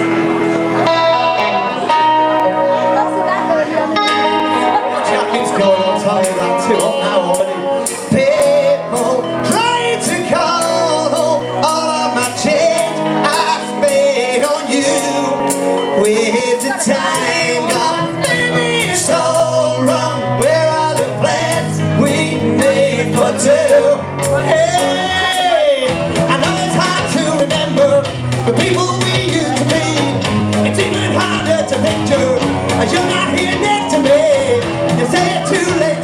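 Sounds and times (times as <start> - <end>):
pop-rock backing instruments and beat: 0.0 - 36.0
person singing: 0.6 - 36.0.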